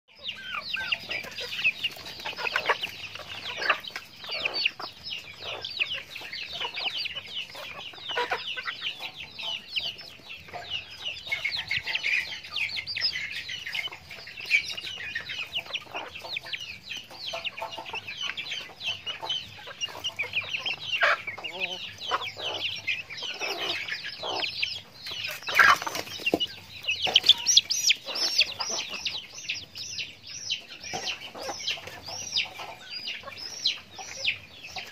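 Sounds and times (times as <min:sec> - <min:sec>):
chickens clucking: 0:00.1 - 0:34.9
high-pitched chatter of calls: 0:00.2 - 0:34.9.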